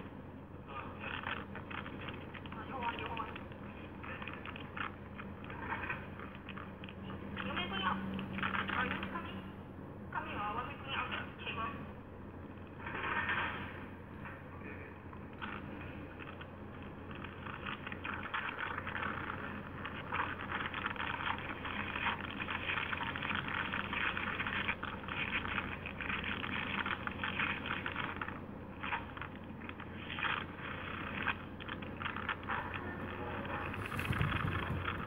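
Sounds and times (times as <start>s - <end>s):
crackling hissy recording noise: 0.0s - 35.0s
steady low hum: 0.0s - 35.0s.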